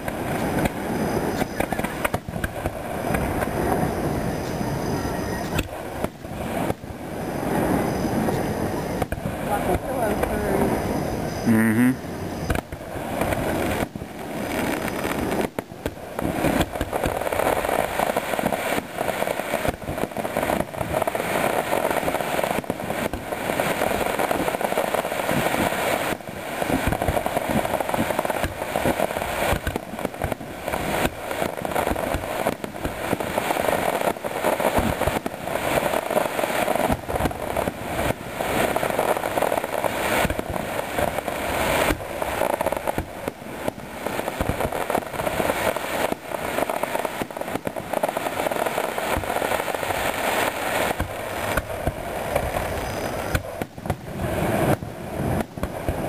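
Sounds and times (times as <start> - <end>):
continuous noisy wash: 0.0 - 56.0
fireworks bursting with sharp bangs: 0.0 - 56.0.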